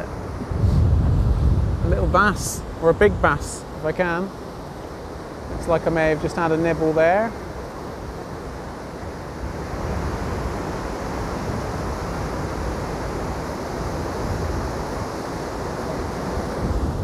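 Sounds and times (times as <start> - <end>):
surf breaking on rocky shore: 0.0 - 17.0
wind gusting on microphone: 0.0 - 17.0.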